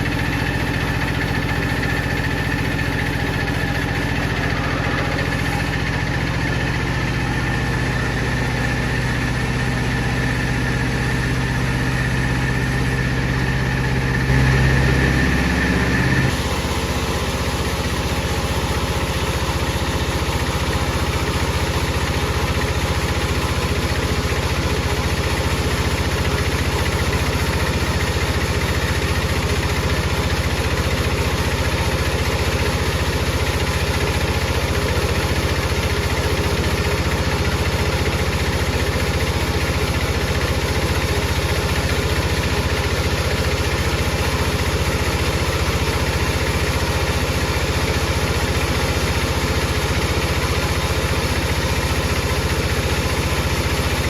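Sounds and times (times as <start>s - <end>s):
power saw motor running: 0.0s - 54.0s.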